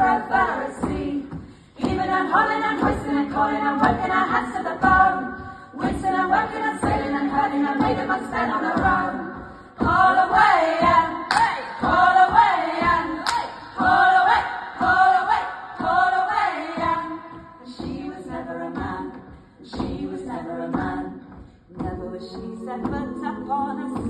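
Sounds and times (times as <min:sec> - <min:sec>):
women singing together: 0:00.0 - 0:24.0.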